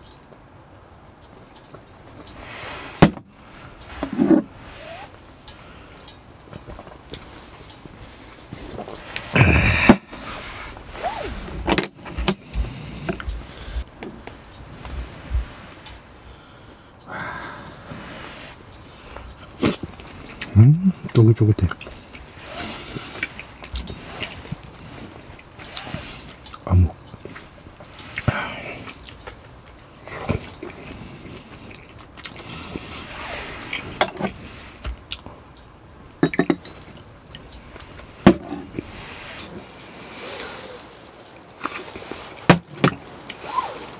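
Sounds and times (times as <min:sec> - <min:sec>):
quiet eating: 0:03.4 - 0:43.9.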